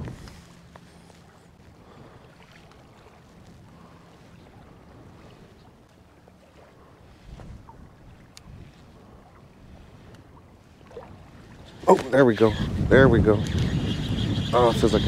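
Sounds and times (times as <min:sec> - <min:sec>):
shallow water sloshing: 0:00.0 - 0:13.6
wind rumble on microphone: 0:00.0 - 0:15.0.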